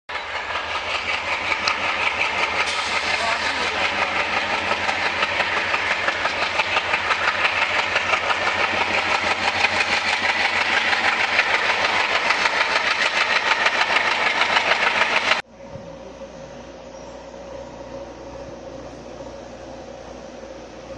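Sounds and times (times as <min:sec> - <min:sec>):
diesel locomotive engine working hard: 0:00.1 - 0:20.9.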